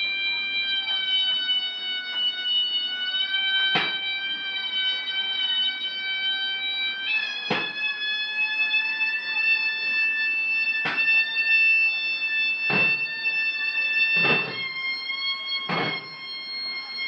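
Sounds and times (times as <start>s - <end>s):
wind instrument long high notes: 0.0s - 17.0s.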